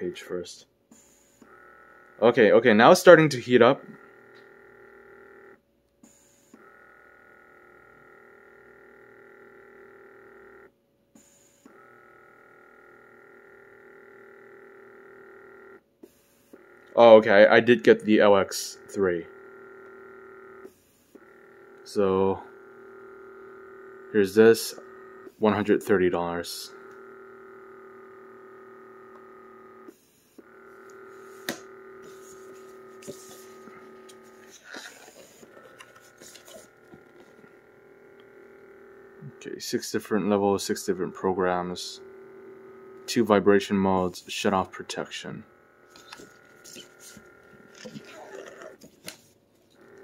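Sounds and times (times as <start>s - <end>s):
small air pump humming: 0.8s - 17.4s, 18.5s - 50.0s.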